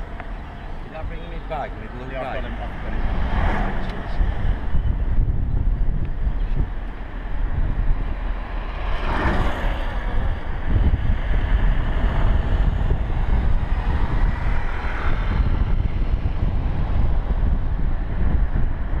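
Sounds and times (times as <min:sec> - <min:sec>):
car driving on road: 0:00.0 - 0:19.0.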